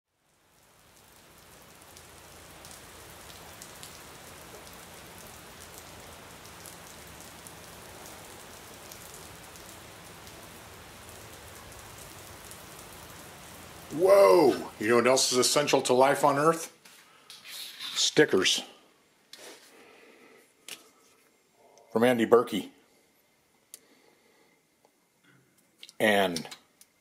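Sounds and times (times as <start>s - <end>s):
rain falling: 0.1s - 27.0s.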